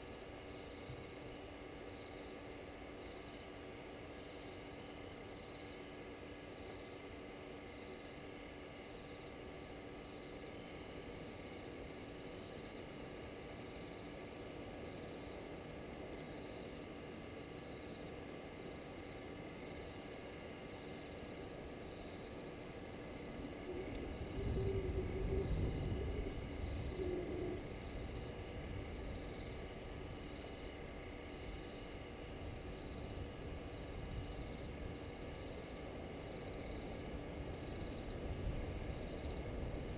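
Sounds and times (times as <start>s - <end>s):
cricket trill: 0.0s - 39.9s
short insect call: 0.0s - 39.9s.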